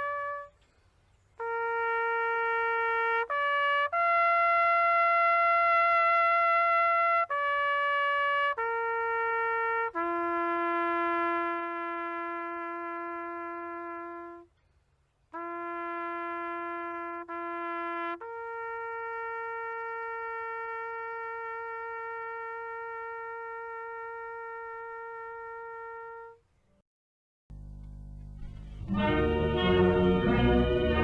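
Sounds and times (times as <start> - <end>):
held brass notes: 0.0 - 0.7, 1.4 - 14.5, 15.4 - 26.4, 27.5 - 31.0.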